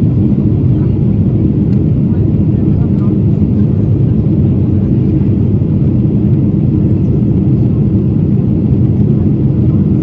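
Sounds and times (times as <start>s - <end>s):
jet engine low rumble: 0.0s - 10.0s.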